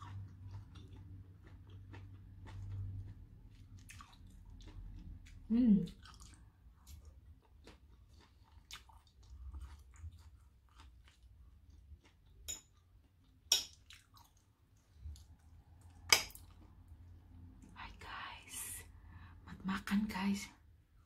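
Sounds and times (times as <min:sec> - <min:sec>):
person chewing food: 0:00.0 - 0:17.7.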